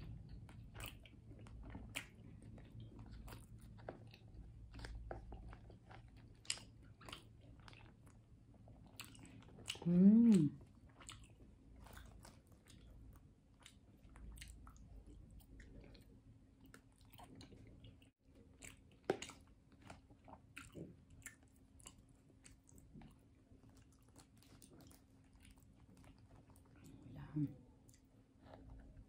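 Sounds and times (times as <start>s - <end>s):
mouth chewing sounds: 0.0s - 29.0s.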